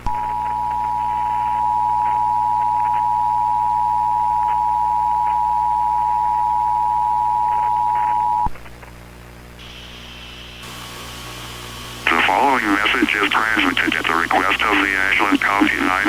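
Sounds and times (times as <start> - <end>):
low mains hum and hiss: 0.0 - 16.0.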